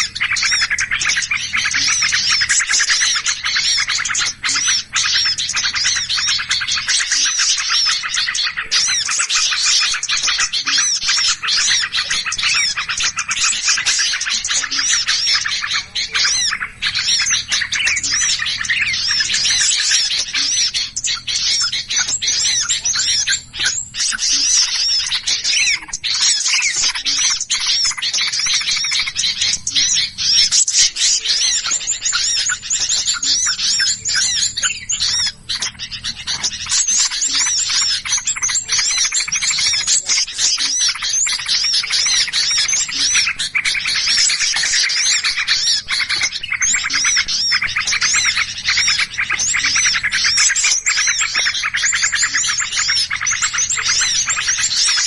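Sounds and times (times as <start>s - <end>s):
many small birds chirping: 0.0s - 55.0s.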